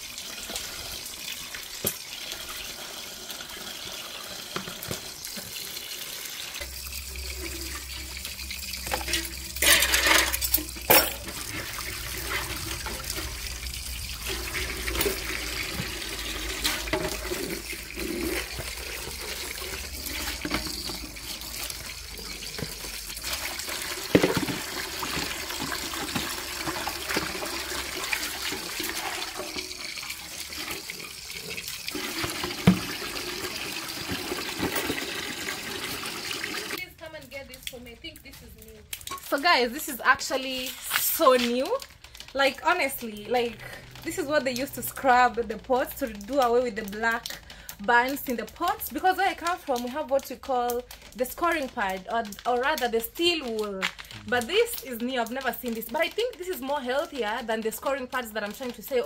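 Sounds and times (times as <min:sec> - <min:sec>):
water running and splashing: 0:00.0 - 0:36.9, 0:38.5 - 0:59.0.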